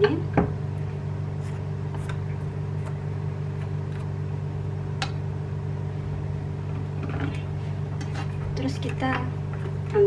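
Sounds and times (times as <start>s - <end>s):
kitchen fan humming: 0.0s - 10.0s.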